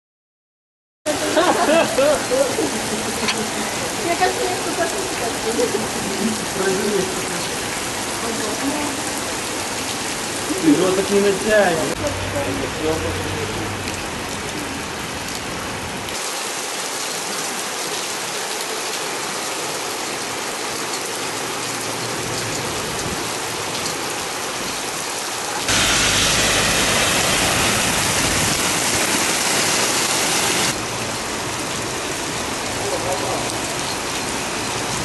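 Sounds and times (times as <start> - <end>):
heavy rain on pavement: 1.1 - 35.0.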